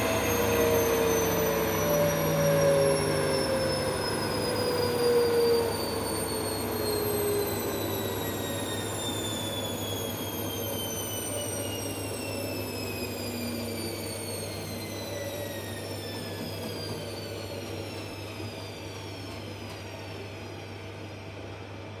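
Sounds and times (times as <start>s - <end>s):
washing machine drum whine: 0.0s - 22.0s.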